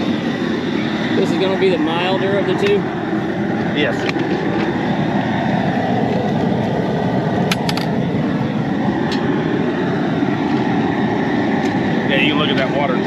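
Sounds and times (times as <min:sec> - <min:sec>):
gas burner rushing: 0:00.0 - 0:13.0.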